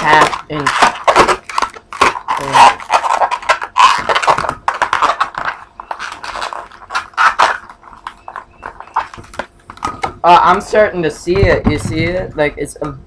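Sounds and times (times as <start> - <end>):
balloon squeaking and rubbing: 0.0 - 12.3.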